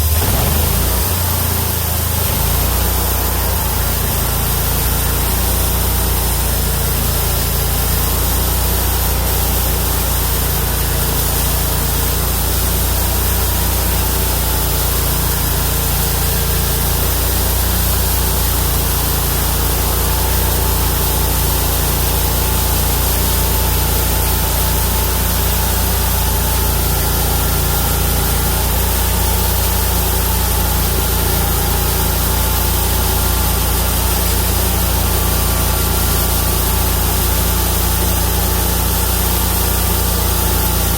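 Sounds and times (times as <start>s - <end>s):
band saw blade cutting log: 0.0s - 40.9s
engine running under load: 0.0s - 40.9s.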